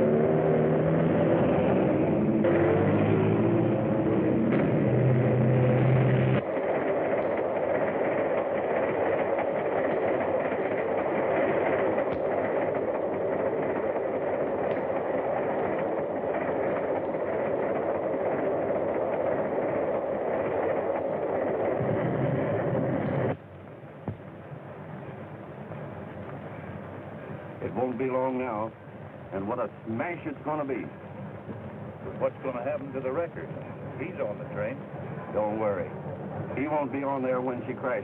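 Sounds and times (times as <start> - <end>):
train rushing rattle: 0.0 - 38.0.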